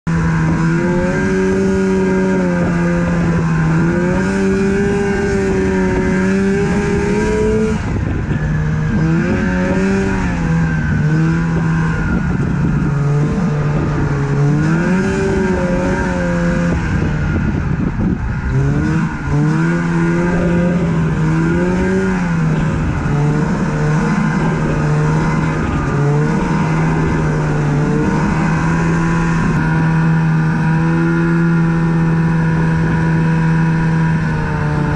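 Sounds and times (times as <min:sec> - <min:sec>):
snowmobile engine revving: 0:00.1 - 0:34.9
steady rushing noise: 0:00.1 - 0:34.9.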